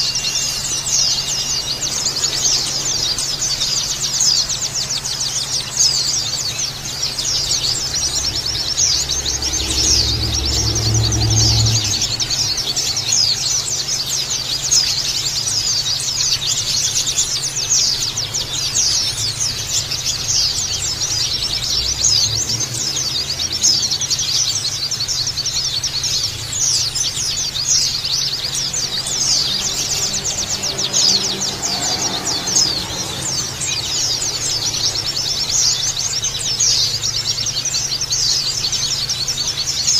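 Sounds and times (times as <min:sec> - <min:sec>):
flock of birds chattering: 0:00.0 - 0:39.9.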